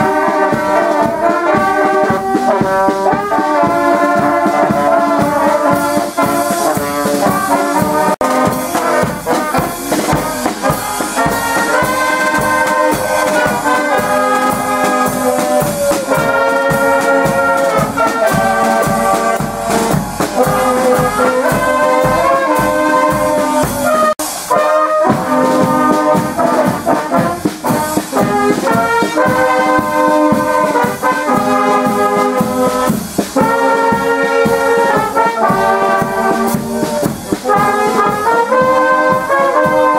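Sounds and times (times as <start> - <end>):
brass band playing: 0.0 - 39.9
steady drum beat: 0.0 - 39.9.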